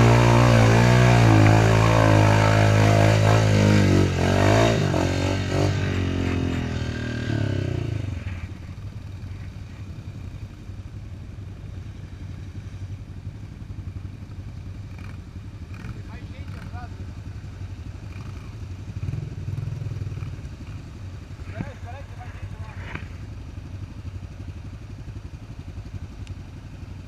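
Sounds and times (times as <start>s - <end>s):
quad bike engine running: 0.0s - 27.0s.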